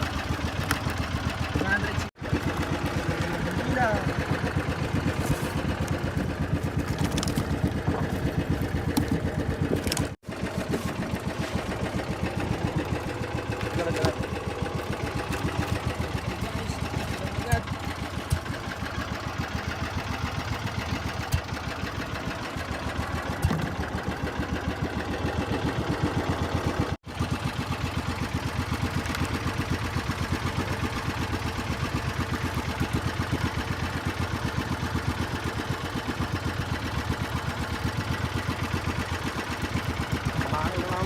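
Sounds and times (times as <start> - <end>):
small boat engine running: 0.0 - 41.0.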